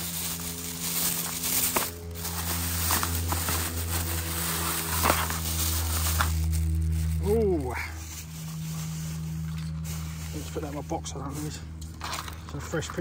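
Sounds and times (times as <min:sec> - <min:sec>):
plastic bags crinkling: 0:00.0 - 0:13.0
steady low hum: 0:00.0 - 0:13.0.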